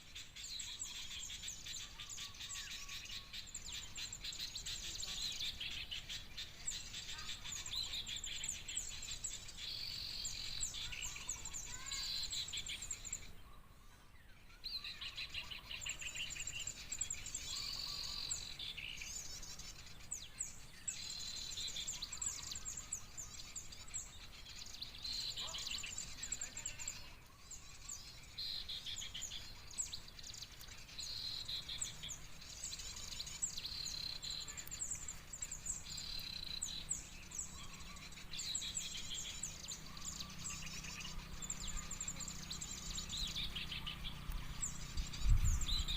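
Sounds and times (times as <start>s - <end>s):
flock of small birds chirping: 0.0s - 45.9s.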